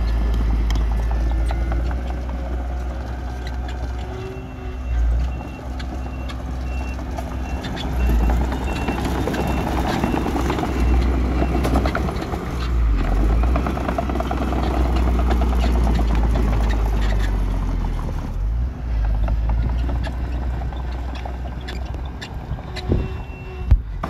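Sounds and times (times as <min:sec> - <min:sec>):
machinery rattling: 0:00.0 - 0:18.2, 0:18.9 - 0:23.4
diesel engine rumble: 0:00.0 - 0:24.0.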